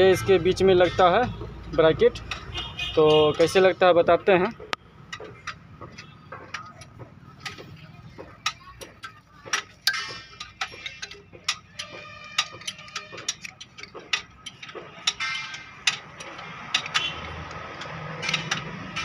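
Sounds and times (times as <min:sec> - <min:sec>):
light metallic clicks and clinks: 0:00.5 - 0:02.6, 0:03.4 - 0:19.0.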